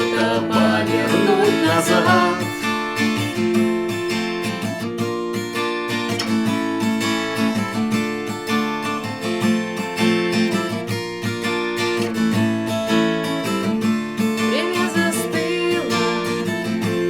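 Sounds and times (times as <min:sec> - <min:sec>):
guitar strumming: 0:00.0 - 0:17.0.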